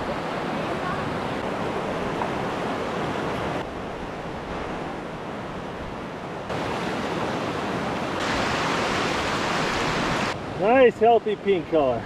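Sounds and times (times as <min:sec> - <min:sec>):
river rushing over rocks: 0:00.0 - 0:10.8.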